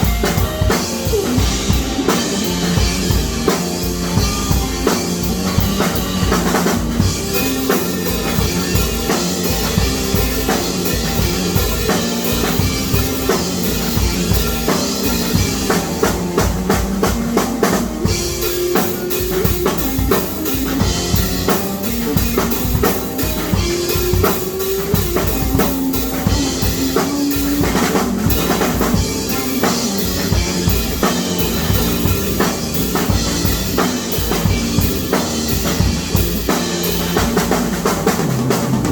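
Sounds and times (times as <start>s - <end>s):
fast drum kit playing: 0.0s - 38.9s
pitched bass line: 0.0s - 38.9s.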